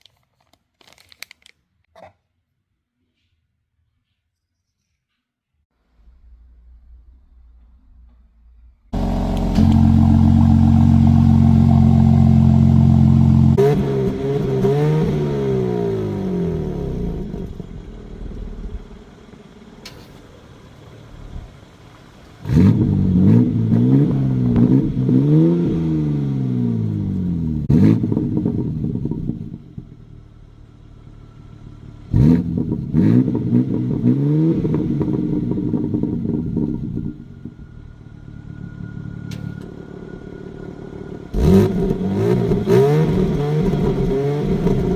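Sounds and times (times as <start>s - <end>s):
exhaust cracks: 5.9s - 44.9s
car engine idling and revving: 6.0s - 44.9s.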